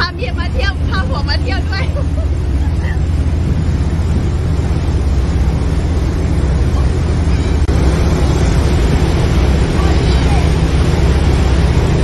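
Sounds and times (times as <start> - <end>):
boat engine rumble: 0.0 - 12.0
wind on microphone: 0.5 - 12.0.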